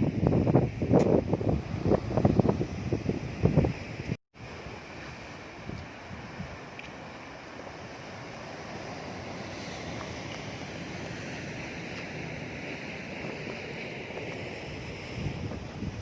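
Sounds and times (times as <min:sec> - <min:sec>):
wind on microphone: 0:00.0 - 0:06.9, 0:08.2 - 0:16.0
ocean surf against rocks: 0:00.0 - 0:16.0.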